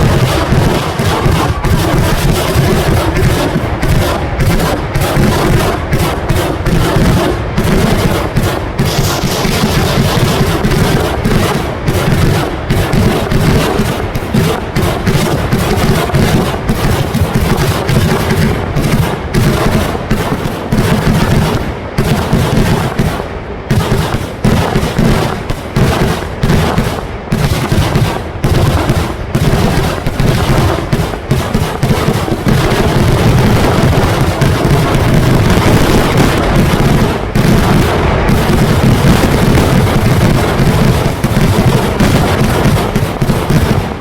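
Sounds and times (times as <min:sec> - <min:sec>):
fireworks barrage bangs: 0:00.0 - 0:44.0.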